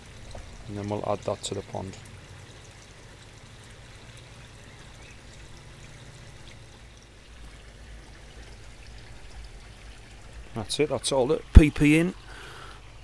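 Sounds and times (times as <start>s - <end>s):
water bubbling and pouring: 0.0s - 13.0s.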